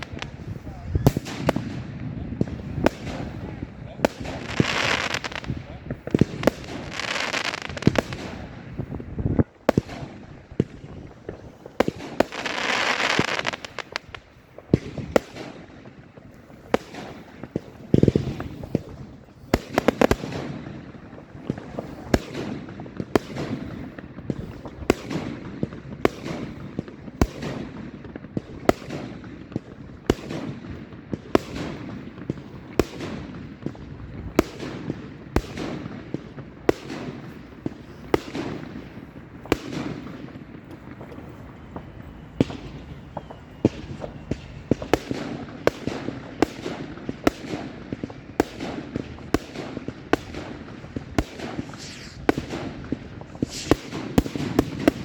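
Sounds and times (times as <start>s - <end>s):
firework bangs: 0.0s - 55.0s
hissing firework bursts: 0.0s - 55.0s.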